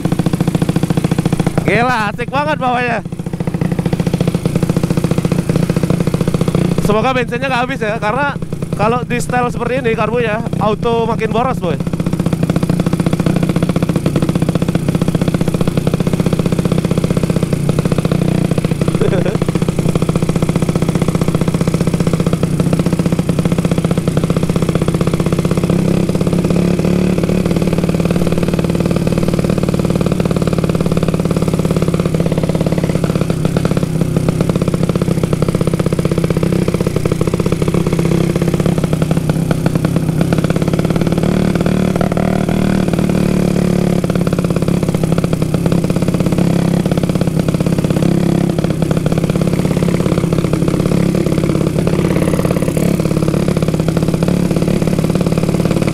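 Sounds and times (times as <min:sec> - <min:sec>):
motorcycle engine pulsing: 0:00.0 - 0:55.9.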